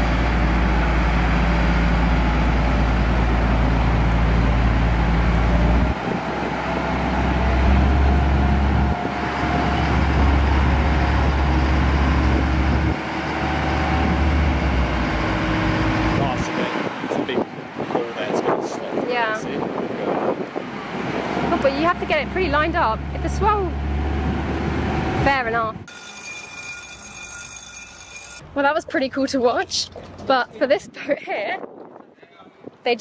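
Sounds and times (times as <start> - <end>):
bridge motors droning: 0.0 - 17.0, 20.7 - 30.3.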